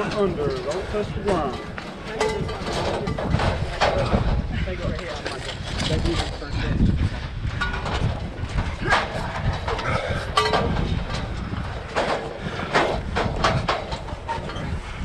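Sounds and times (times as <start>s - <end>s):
running footfalls and clatter: 0.0s - 15.0s
wind rumble on microphone: 0.0s - 15.0s.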